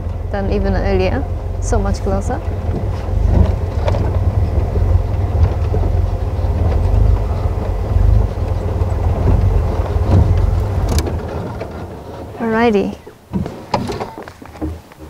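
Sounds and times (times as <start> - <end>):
vehicle body rattles: 0.0 - 15.0
vehicle engine rumble: 0.0 - 15.0.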